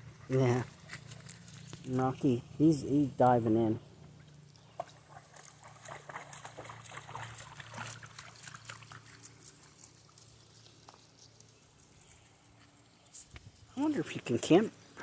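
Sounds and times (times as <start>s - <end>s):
dog swimming splashing water: 0.0s - 12.5s.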